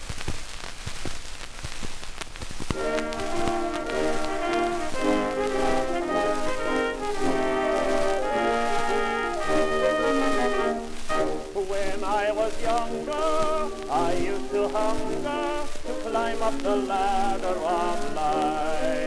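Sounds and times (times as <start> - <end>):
record surface crackle and hiss: 0.0 - 19.0
dance orchestra with brass melody: 2.7 - 19.0.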